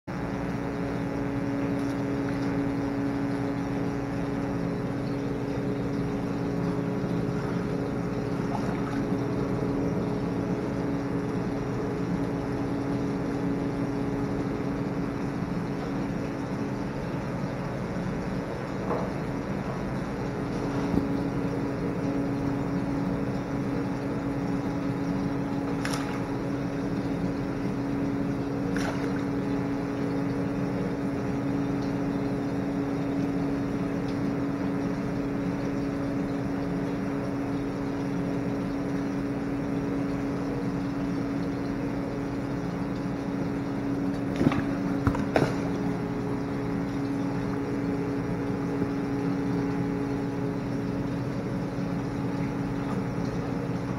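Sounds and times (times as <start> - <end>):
water pump humming: 0.0 - 53.9.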